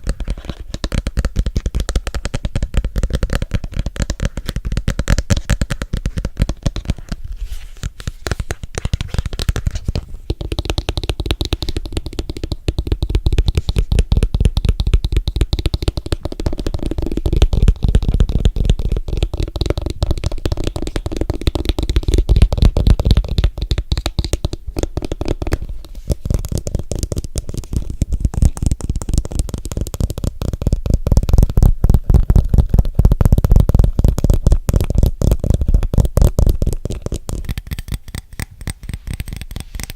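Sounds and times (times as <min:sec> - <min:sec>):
finger and nail tapping: 0:00.0 - 0:07.2, 0:07.8 - 0:39.9.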